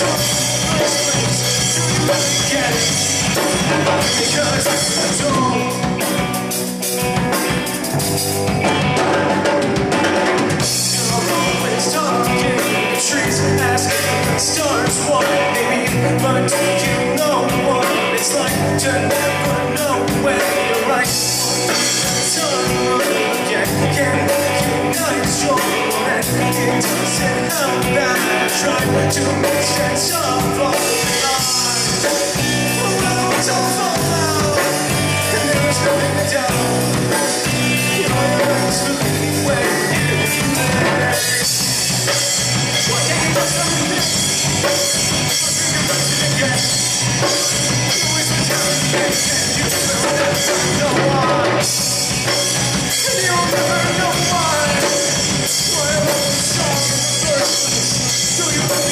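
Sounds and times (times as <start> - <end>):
person singing: 0.0 - 6.4, 8.7 - 58.9
drums: 0.0 - 58.9
guitar: 0.0 - 58.9.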